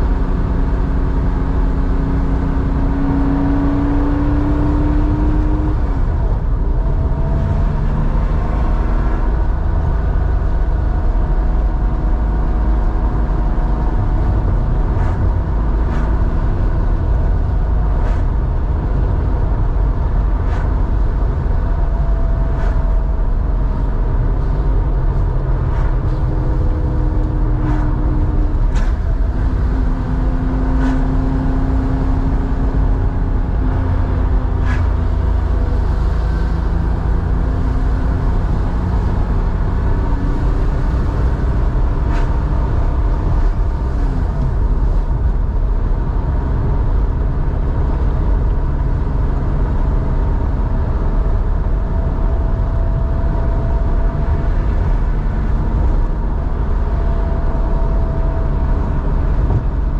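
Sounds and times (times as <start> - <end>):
car engine droning at cruise: 0.0 - 59.9.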